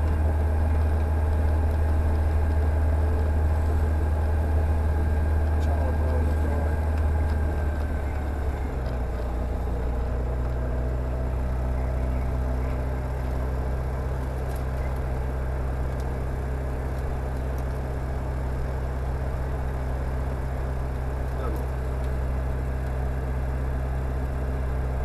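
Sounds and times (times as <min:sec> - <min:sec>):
aircraft engine idling: 0:00.0 - 0:25.0.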